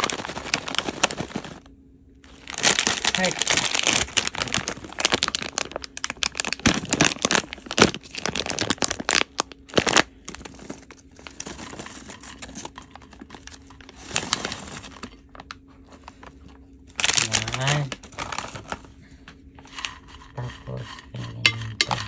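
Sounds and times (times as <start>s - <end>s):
plastic bag crinkling: 0.0s - 18.9s.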